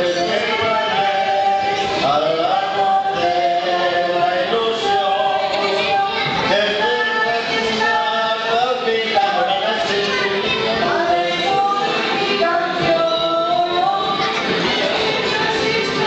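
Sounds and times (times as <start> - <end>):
group of people singing: 0.0 - 16.0.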